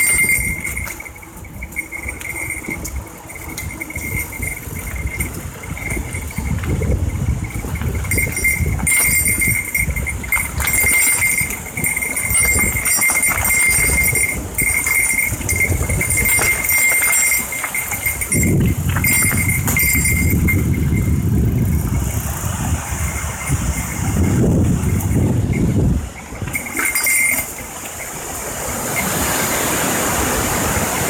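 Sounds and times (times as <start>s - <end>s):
bike rattling over stones: 0.0s - 31.0s
bike tyres rumbling on gravel: 0.0s - 31.0s.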